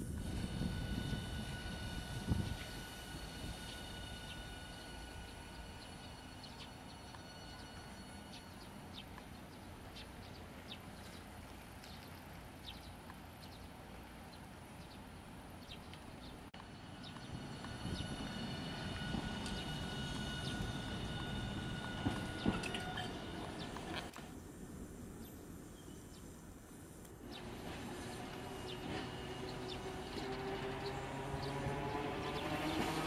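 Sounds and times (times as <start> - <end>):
tram rumble and whine: 0.0 - 33.0.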